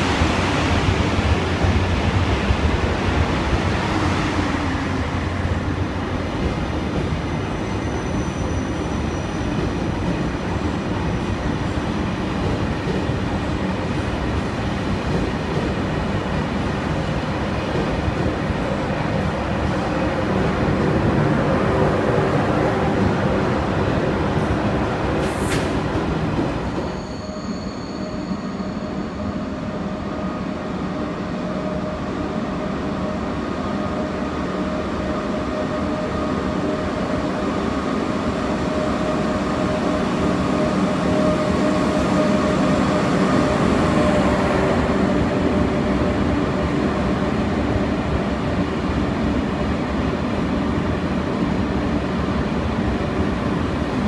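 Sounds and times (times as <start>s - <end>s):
train whine: 0.0s - 54.0s.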